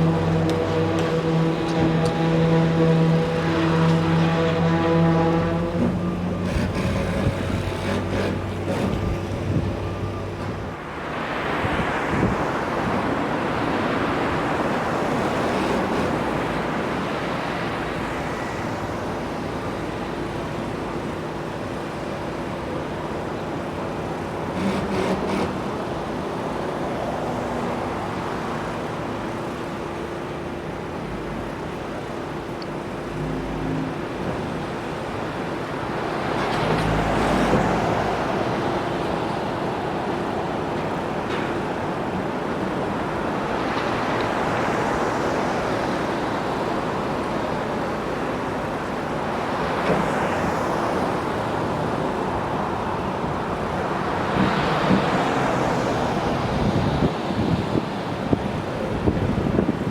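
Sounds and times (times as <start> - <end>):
engine hum: 0.0 - 59.9
vehicles passing: 0.0 - 59.9.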